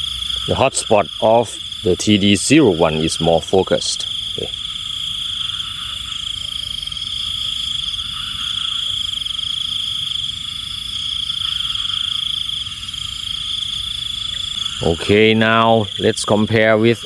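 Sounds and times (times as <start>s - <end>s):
higher trilling: 0.0s - 17.0s
insects and frogs calling: 0.0s - 17.0s.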